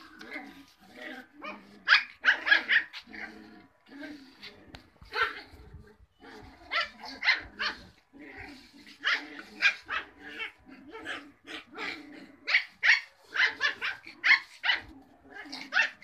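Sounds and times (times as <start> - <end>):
puppies yapping: 0.0 - 16.0.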